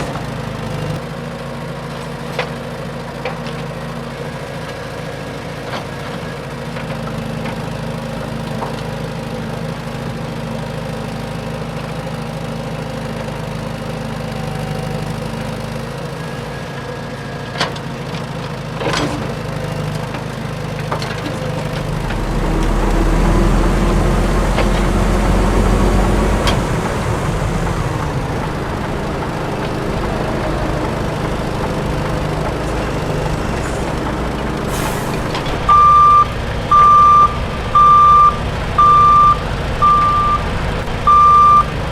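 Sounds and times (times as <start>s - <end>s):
toy truck engine idling and revving: 0.0s - 41.9s.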